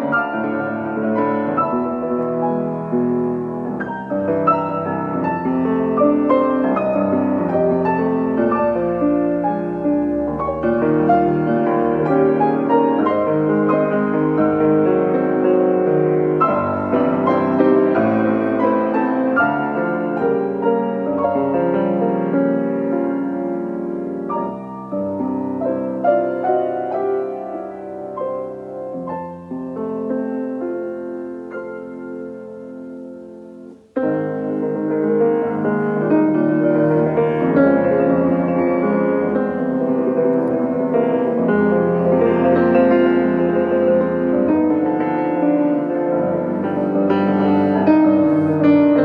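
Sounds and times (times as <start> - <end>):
solo piano chords: 0.0 - 49.0.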